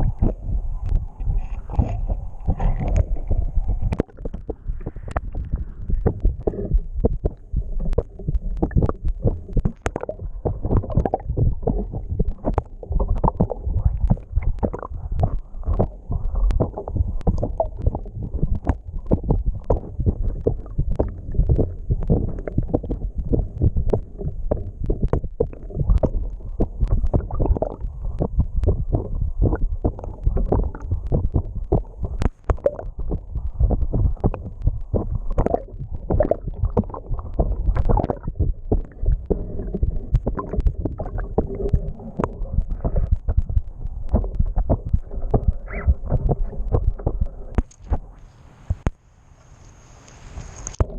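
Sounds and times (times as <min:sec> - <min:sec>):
muffled underwater water rushing: 0:00.0 - 0:49.0, 0:49.9 - 0:50.9
small knocks and gurgles: 0:00.0 - 0:49.0, 0:50.6 - 0:50.9.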